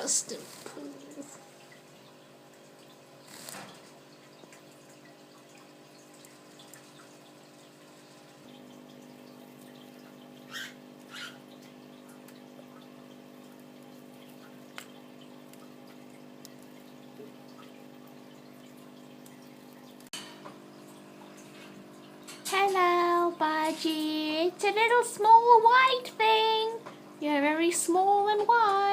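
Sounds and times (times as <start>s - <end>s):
quiet machine hum: 0.0s - 28.9s.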